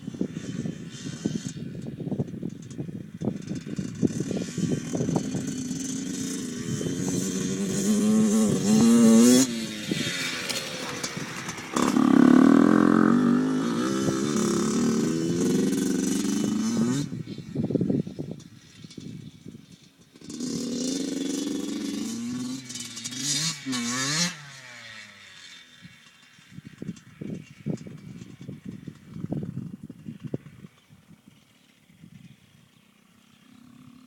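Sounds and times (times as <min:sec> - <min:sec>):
dirt bike engine revving: 0:03.3 - 0:19.0, 0:19.7 - 0:32.3.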